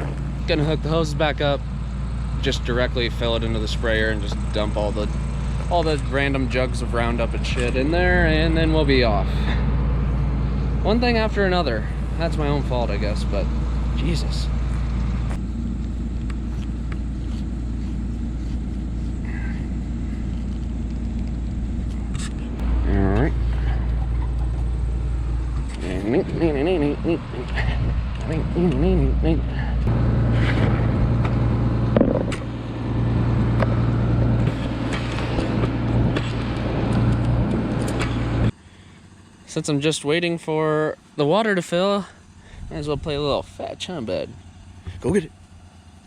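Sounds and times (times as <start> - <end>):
engine idling: 0.0 - 46.0.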